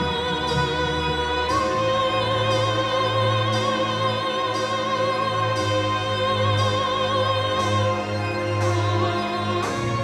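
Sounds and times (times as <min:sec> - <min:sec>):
slow melody with vibrato: 0:00.0 - 0:10.0.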